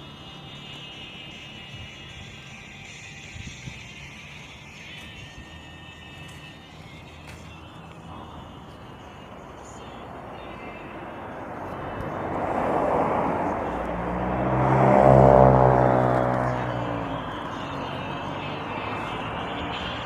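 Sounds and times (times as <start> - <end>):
car passing close: 0.0 - 20.0
street traffic passing: 0.0 - 20.0.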